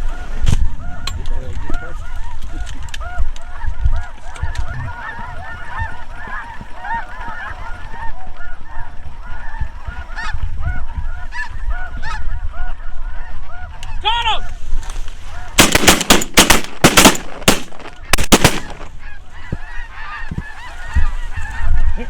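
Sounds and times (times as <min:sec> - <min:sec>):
geese honking: 0:00.0 - 0:14.6, 0:15.2 - 0:22.0.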